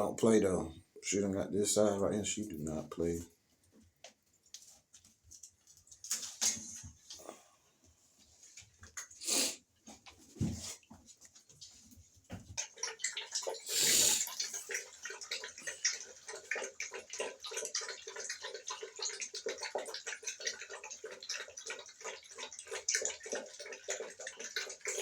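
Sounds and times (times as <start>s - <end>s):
puppies lapping water: 0.0s - 25.0s.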